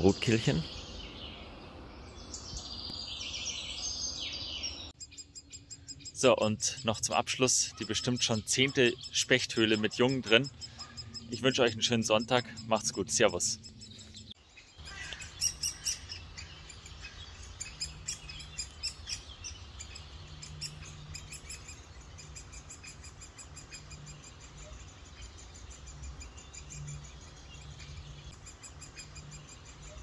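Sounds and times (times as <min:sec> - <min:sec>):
nestlings begging calls: 0:03.0 - 0:30.0.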